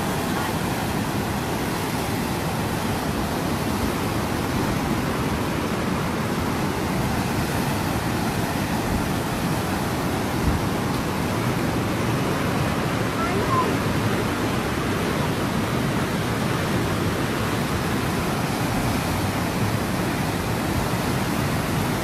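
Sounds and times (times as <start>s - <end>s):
river torrent rushing: 0.0s - 22.0s.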